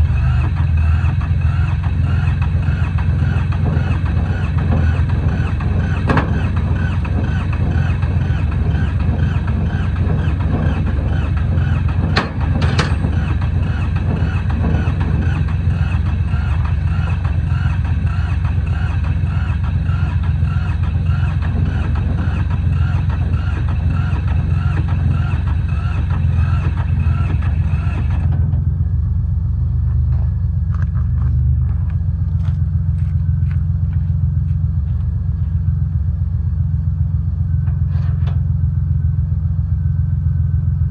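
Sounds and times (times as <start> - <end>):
engine rumbling: 0.0 - 40.9.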